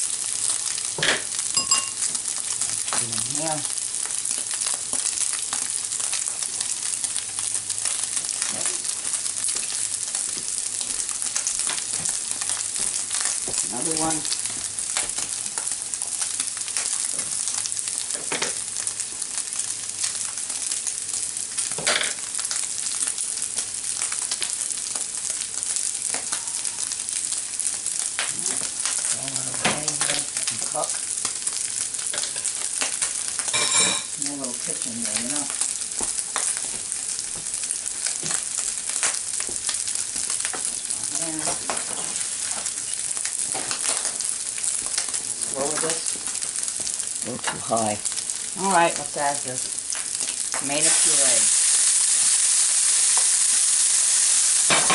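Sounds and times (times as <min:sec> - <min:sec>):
meat and onions sizzling: 0:00.0 - 0:54.9.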